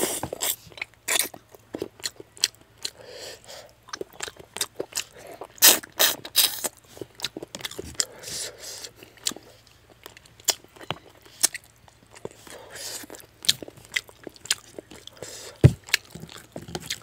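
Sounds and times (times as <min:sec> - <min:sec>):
wet chewing and smacking: 0:00.3 - 0:03.0, 0:03.8 - 0:17.0.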